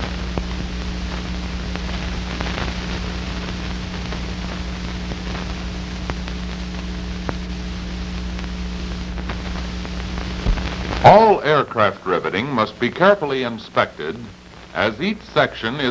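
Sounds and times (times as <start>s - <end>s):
film soundtrack hiss: 0.0s - 15.9s.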